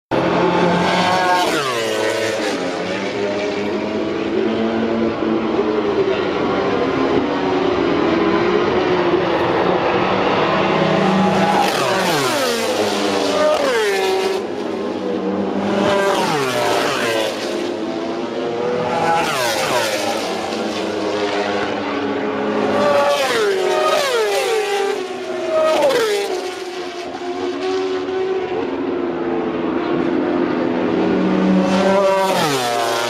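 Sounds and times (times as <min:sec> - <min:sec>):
racing motorcycles passing by: 0:00.1 - 0:33.0.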